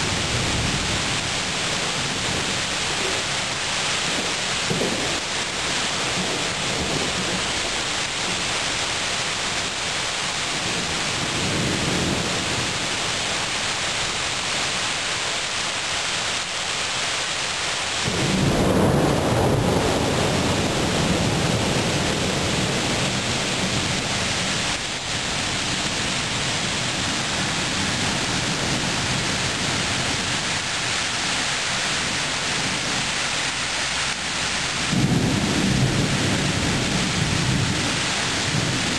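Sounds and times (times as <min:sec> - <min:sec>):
thunder rumbling: 0:00.0 - 0:13.6, 0:18.0 - 0:33.2, 0:33.9 - 0:38.9
heavy rain: 0:00.0 - 0:38.9.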